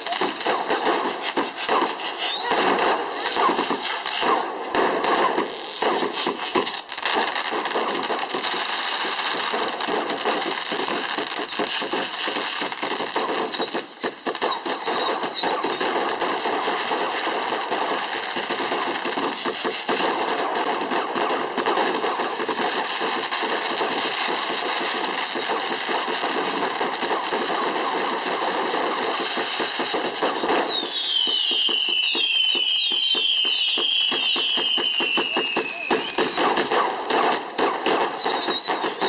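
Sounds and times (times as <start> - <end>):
fireworks crackling and banging: 0.0 - 39.0
whistling fireworks falling in pitch: 0.0 - 39.0.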